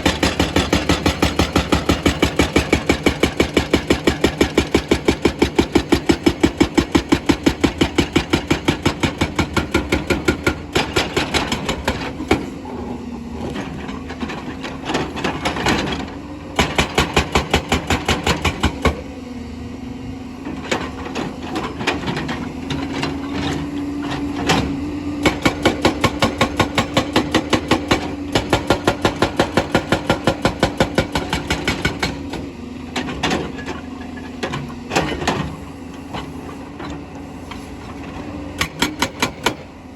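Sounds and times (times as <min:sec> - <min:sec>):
hydraulic rock breaker hammering stone: 0:00.0 - 0:19.1, 0:20.6 - 0:33.8, 0:38.6 - 0:39.9.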